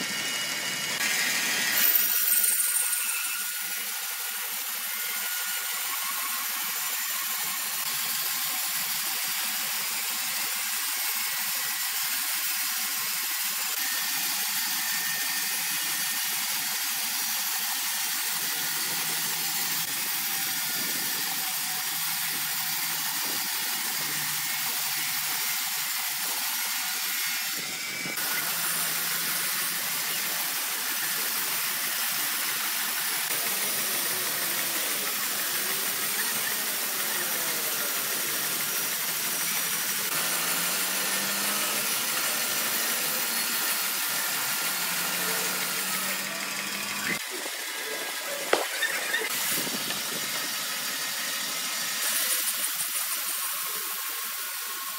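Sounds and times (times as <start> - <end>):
band saw cutting timber: 0.0 - 54.9.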